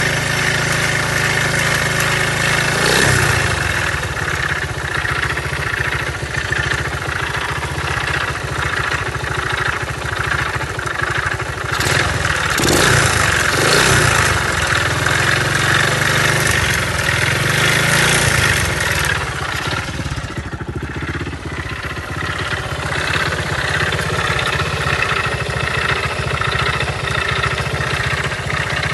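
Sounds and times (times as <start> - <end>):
small motorcycle engine idling: 0.0 - 28.9.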